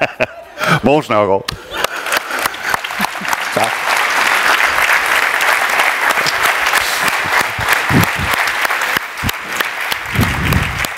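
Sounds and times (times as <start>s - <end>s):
large audience applauding: 1.7s - 10.9s.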